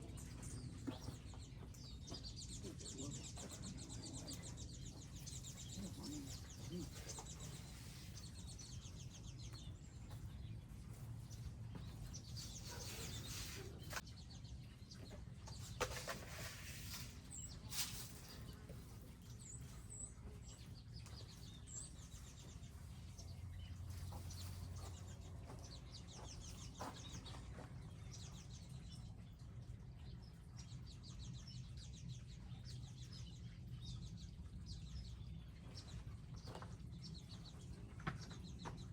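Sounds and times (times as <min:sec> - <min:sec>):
birds trilling and chirping: 0:00.0 - 0:38.9.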